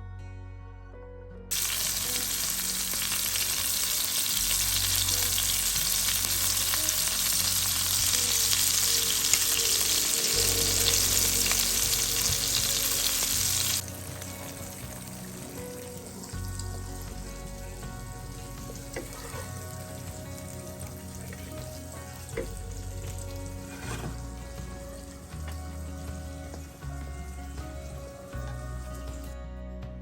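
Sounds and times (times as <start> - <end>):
soft music: 0.0 - 30.0
meat sizzling in a pan: 1.5 - 29.3.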